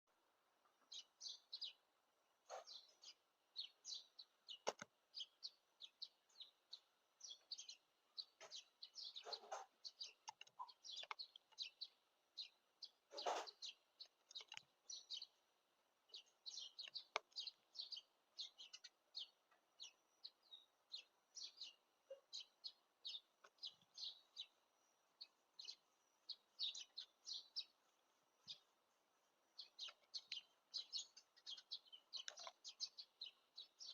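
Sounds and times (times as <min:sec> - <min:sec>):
faint wild birds chirping: 0:00.0 - 0:33.9.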